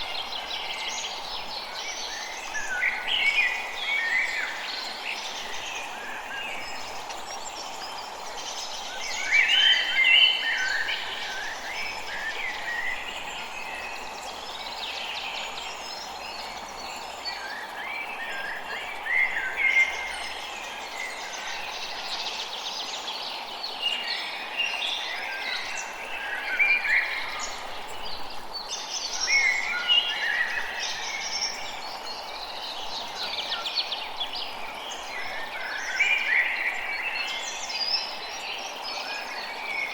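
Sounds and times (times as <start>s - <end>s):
birds singing and calling: 0.0s - 39.9s
steady background hiss: 0.0s - 39.9s.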